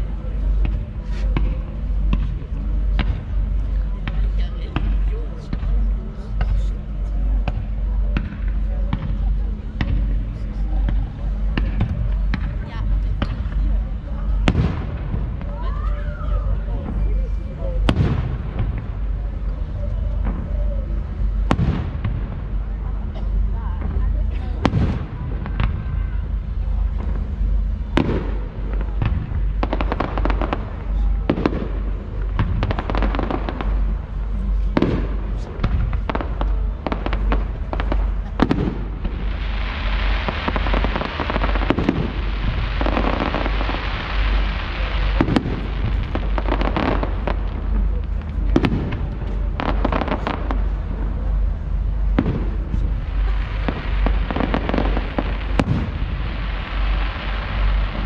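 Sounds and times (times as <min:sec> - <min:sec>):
dense firework crackling: 0:00.0 - 0:58.0.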